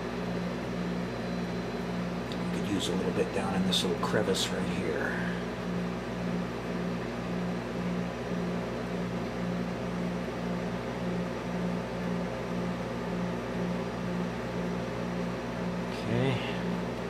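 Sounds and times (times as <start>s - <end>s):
pulsing machine hum: 0.0s - 17.0s.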